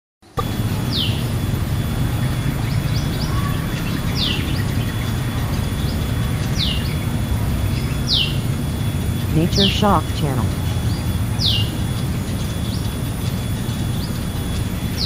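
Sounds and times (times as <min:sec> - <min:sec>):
bird chirping: 0:02.1 - 0:15.0.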